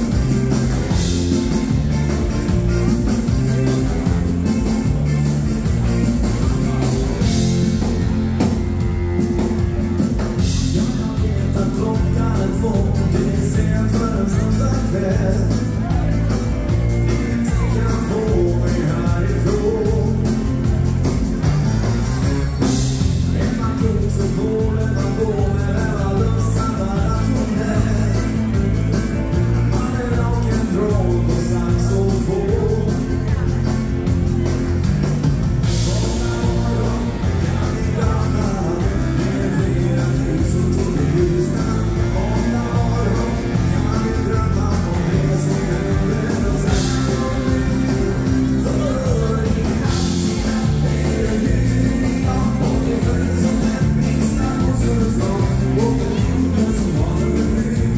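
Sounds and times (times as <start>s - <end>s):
man singing: 0.0s - 21.6s, 22.6s - 57.9s
drums over steady beat: 0.0s - 57.9s
electric guitar: 0.0s - 57.9s
keyboards: 0.0s - 57.9s.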